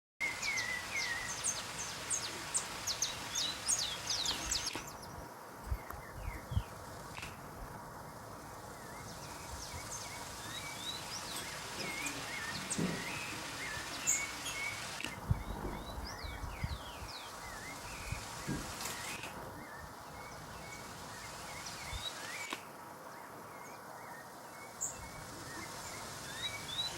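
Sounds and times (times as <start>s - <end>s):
steady outdoor hiss: 0.2s - 26.9s
wild birds chirping: 0.2s - 26.9s.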